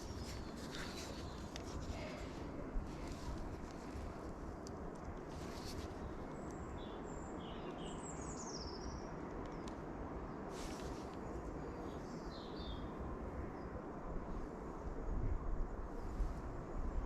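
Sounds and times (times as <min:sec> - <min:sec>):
songbirds chirping: 0:00.0 - 0:13.8
low outdoor rumble: 0:00.0 - 0:17.0.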